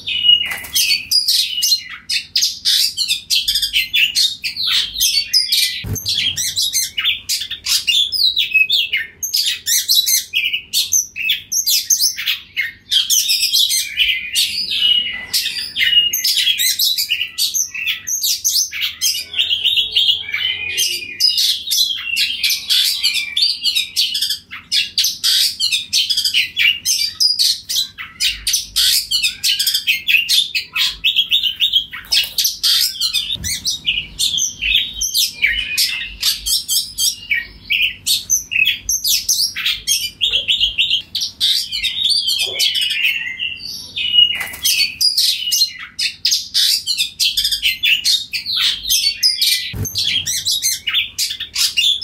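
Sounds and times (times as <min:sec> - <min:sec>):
bird singing: 0:00.0 - 0:52.0.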